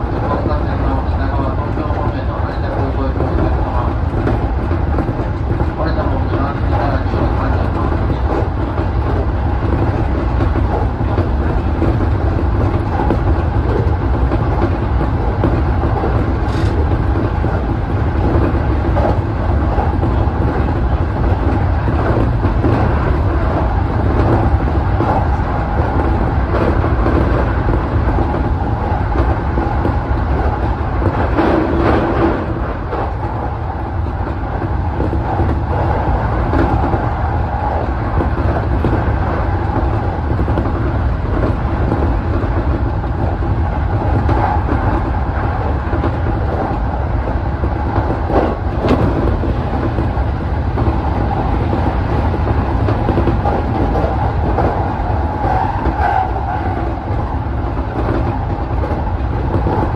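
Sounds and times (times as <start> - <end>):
train running hum: 0.0 - 59.9
train wheels rumbling on rail: 0.0 - 59.9.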